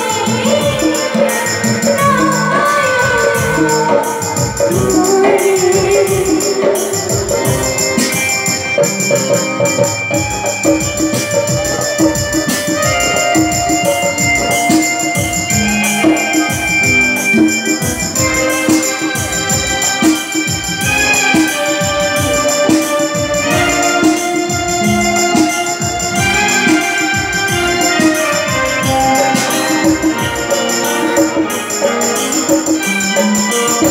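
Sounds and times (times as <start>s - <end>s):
fast drum beat: 0.0s - 33.9s
organ-like keyboard melody: 0.0s - 33.9s.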